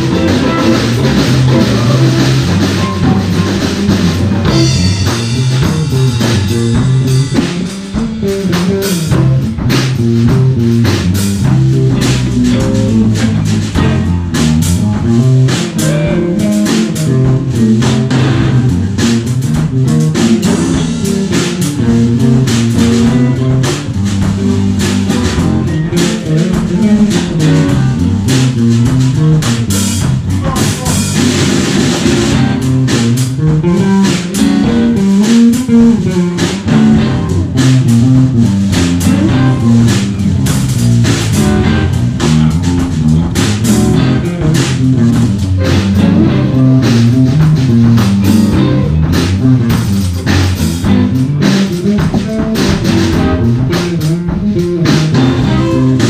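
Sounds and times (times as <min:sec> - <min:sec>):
drum kit: 0:00.0 - 0:56.0
electric bass line: 0:00.0 - 0:56.0
electric guitars: 0:00.0 - 0:56.0.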